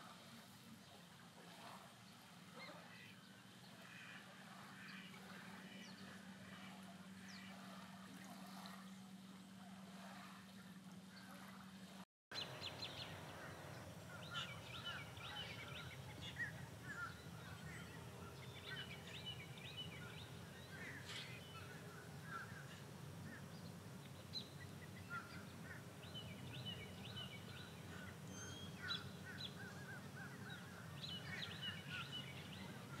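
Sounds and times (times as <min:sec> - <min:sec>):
low steady hum: 0:00.0 - 0:33.0
birds calling: 0:01.6 - 0:11.5, 0:12.3 - 0:33.0.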